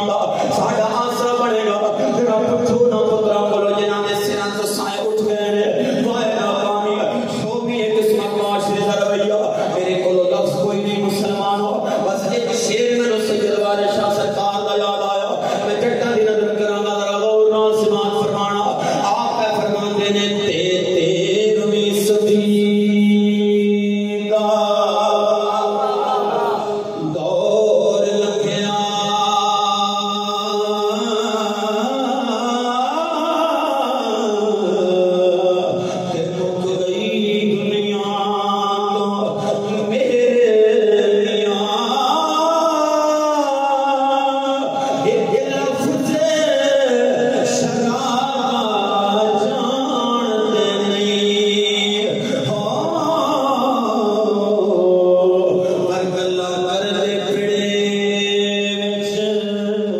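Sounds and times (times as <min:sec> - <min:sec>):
man chanting into a microphone: 0:00.0 - 0:59.9.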